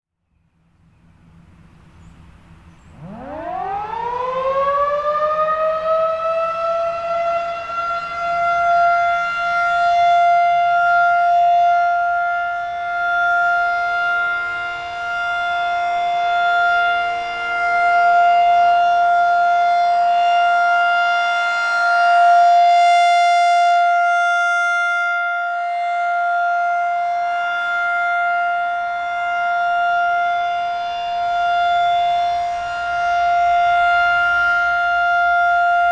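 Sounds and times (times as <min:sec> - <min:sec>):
rotating warning siren winding up: 0:01.2 - 0:22.6, 0:26.2 - 0:35.9.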